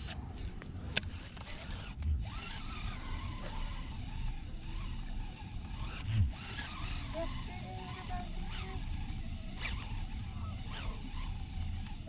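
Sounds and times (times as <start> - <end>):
fishing reel whirring: 0.9 - 12.0.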